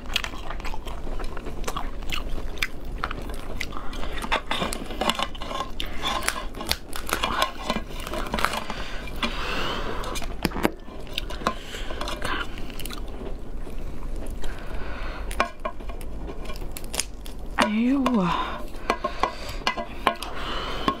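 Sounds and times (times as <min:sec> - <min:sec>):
lobster shell cracking: 0:00.0 - 0:09.4, 0:10.0 - 0:13.6, 0:14.2 - 0:21.0
chewing: 0:00.0 - 0:17.6
shell and meat tearing: 0:00.0 - 0:17.7.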